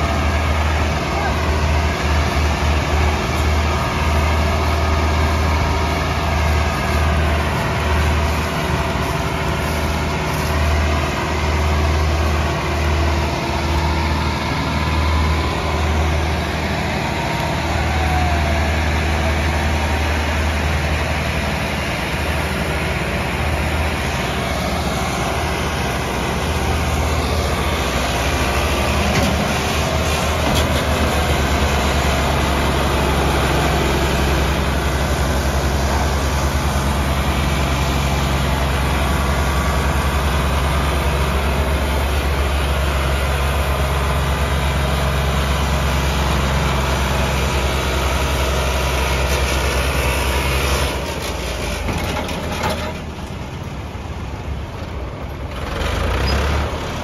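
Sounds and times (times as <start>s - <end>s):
tractor engines throbbing under load: 0.0s - 57.0s.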